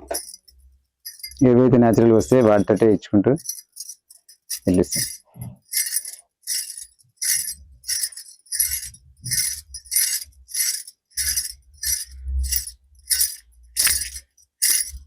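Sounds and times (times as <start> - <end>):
bangles jingling: 0.0 - 15.0.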